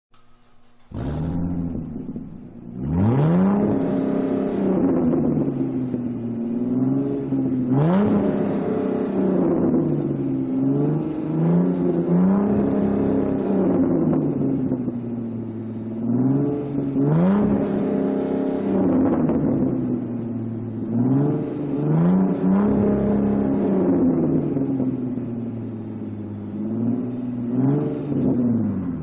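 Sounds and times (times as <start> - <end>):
sports car engine revving: 0.7 - 29.0.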